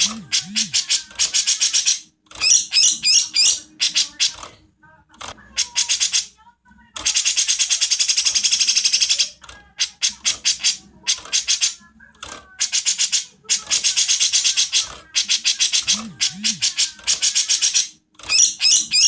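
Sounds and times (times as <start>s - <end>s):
songbird rattling song: 0.0s - 19.0s.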